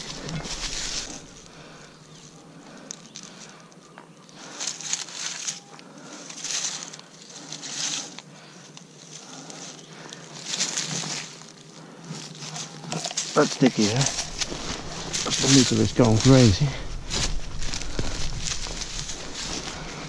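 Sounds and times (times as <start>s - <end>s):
rustling and crunching leaf litter: 0.0s - 3.6s, 4.2s - 20.0s.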